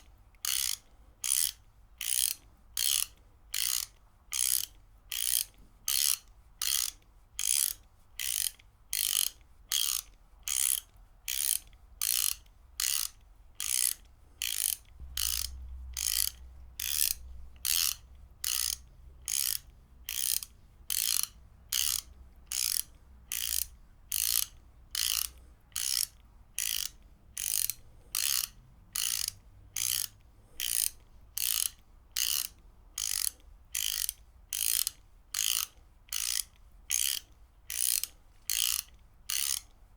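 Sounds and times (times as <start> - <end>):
ratchet wrench clicking: 0.0 - 39.7.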